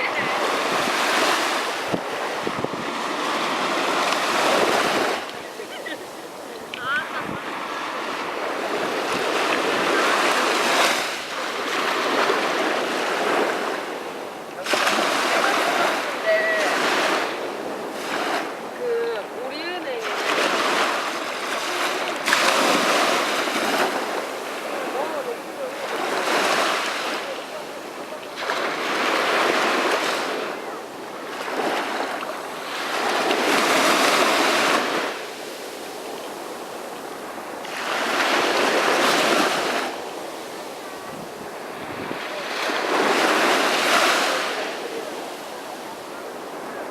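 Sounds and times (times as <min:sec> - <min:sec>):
sea waves breaking on beach: 0:00.0 - 0:46.9.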